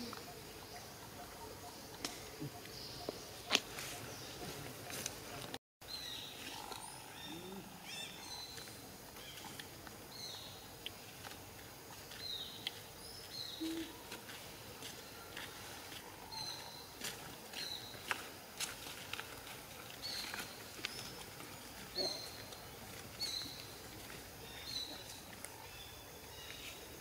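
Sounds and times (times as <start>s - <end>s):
faint forest ambience: 0.0s - 27.0s.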